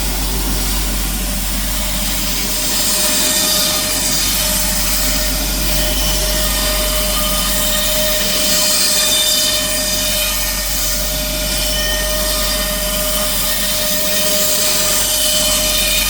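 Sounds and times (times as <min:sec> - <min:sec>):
router spindle whine: 0:00.0 - 0:16.0
router cutting wood: 0:00.4 - 0:16.0.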